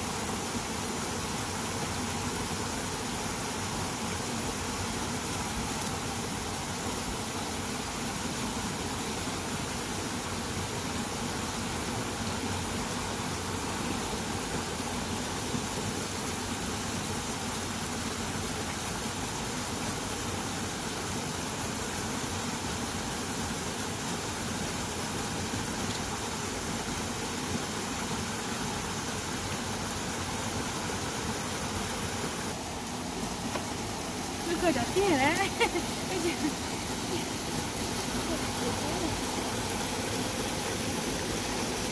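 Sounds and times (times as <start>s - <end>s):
small waterfalls rushing into pool: 0.0s - 41.9s.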